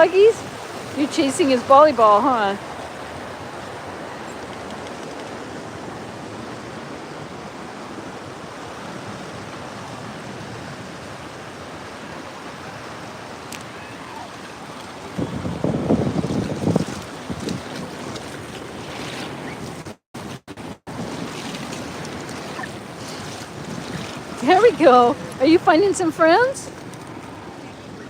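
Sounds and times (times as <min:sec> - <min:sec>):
wind buffeting microphone: 0:00.0 - 0:12.0, 0:12.6 - 0:28.0
ocean surf washing on beach: 0:00.0 - 0:28.0.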